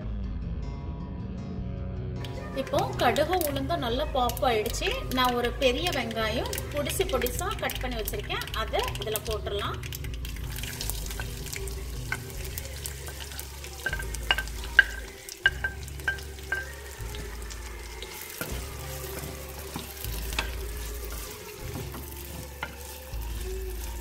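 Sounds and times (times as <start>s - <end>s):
onion sizzling in oil: 2.2s - 24.0s
wooden spoon stirring: 4.3s - 24.0s.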